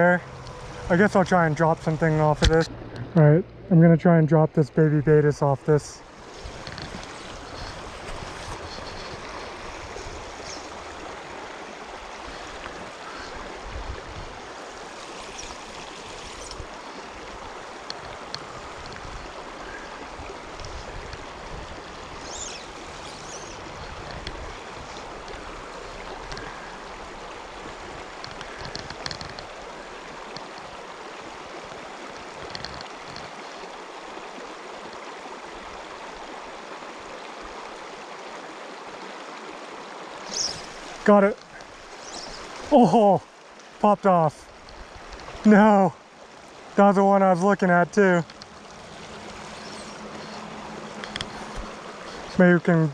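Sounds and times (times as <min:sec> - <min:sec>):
creek water rushing: 0:00.0 - 0:52.9.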